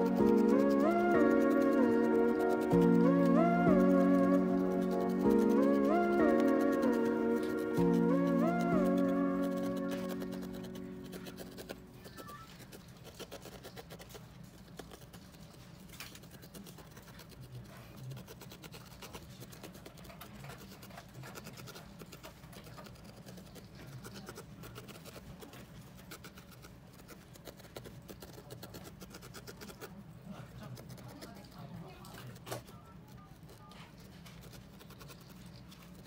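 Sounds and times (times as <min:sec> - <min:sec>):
felting needle poking wool: 0:00.0 - 0:30.0.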